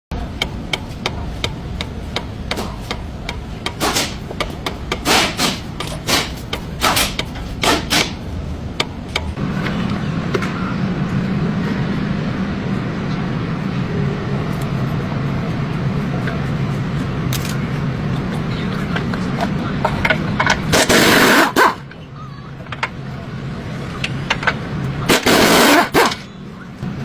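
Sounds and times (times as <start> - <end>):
steady low hum: 0.1 - 27.0.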